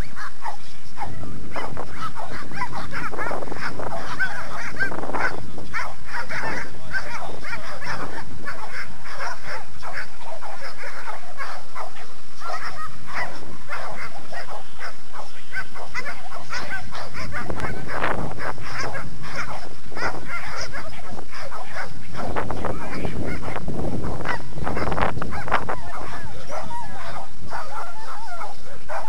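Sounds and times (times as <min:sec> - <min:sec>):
dogs barking: 0:00.0 - 0:29.0.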